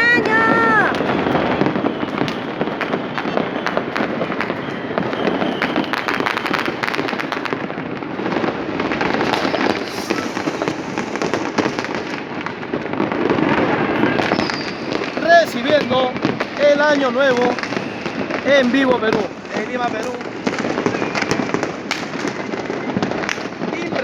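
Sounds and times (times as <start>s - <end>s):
fireworks crackling and banging: 0.0s - 24.0s.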